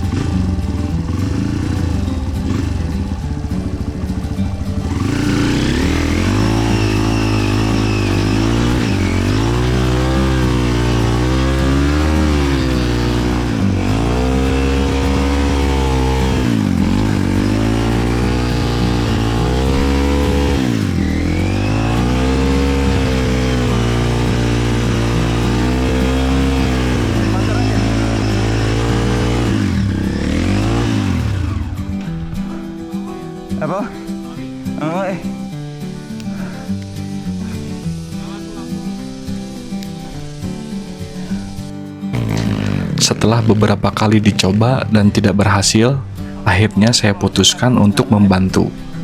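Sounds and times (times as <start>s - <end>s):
motorcycle engine revving: 0.0s - 33.2s, 38.0s - 45.7s.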